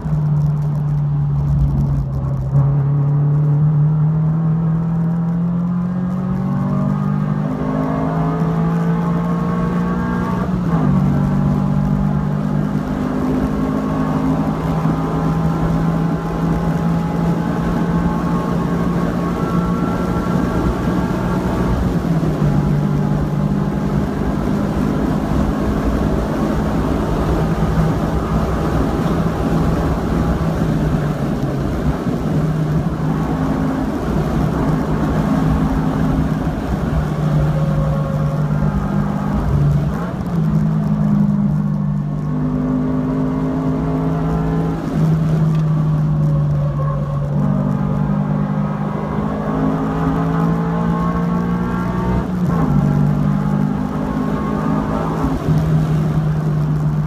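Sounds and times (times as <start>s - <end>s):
car engine revving hard: 3.5s - 57.0s.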